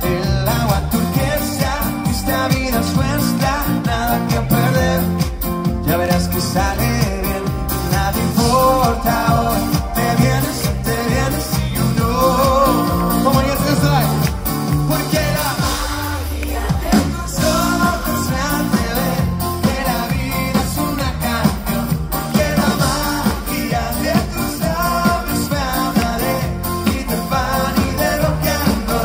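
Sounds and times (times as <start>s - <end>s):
latin pop band playing: 0.0s - 29.0s
lead singer: 0.0s - 29.0s.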